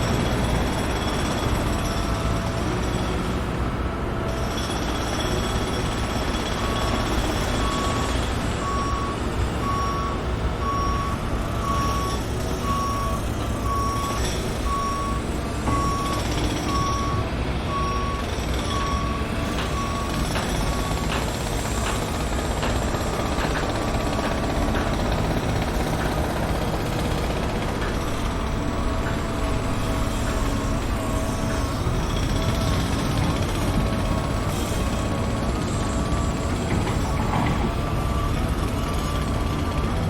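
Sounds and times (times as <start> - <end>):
reversing alarm beeps: 0.0 - 40.0.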